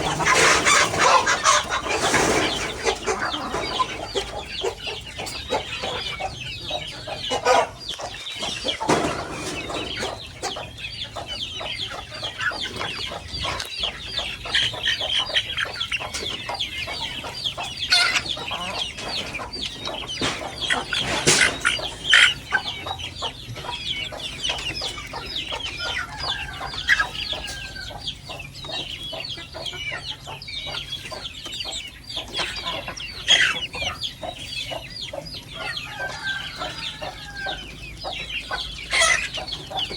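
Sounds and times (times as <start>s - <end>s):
chickens clucking and calling: 0.0s - 39.9s.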